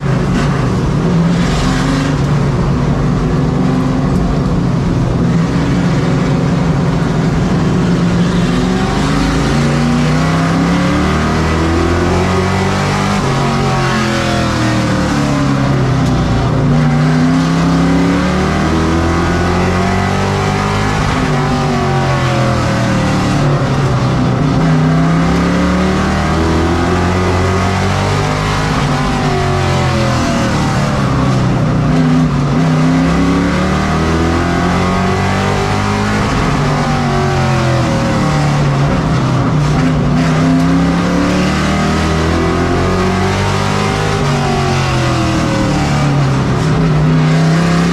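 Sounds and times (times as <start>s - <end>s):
race truck engine accelerating: 0.0s - 47.9s.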